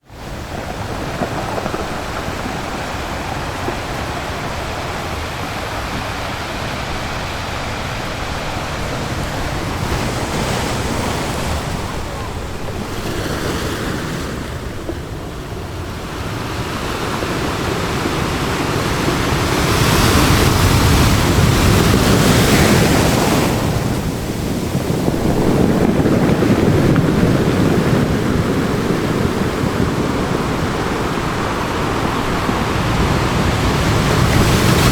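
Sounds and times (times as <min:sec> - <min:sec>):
ocean surf breaking: 0:00.0 - 0:34.9.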